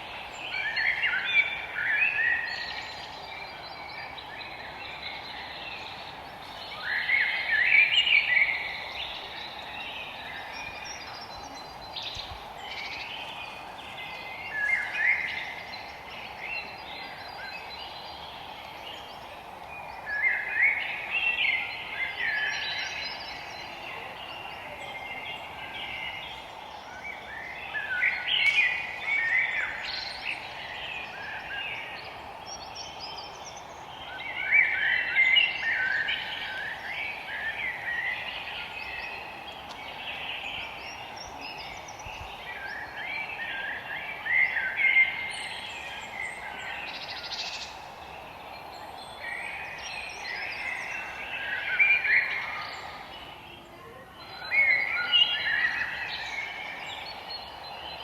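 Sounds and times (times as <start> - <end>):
songbirds singing: 0.0 - 58.0
steady background hiss: 0.0 - 58.0.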